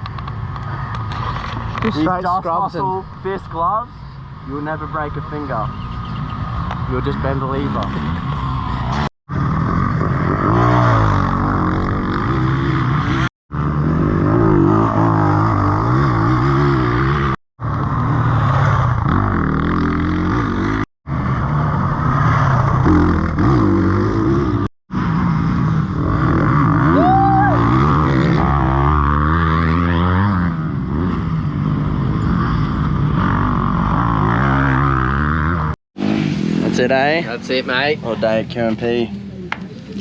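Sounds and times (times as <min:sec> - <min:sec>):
motorcycle engine revving: 0:04.5 - 0:40.0.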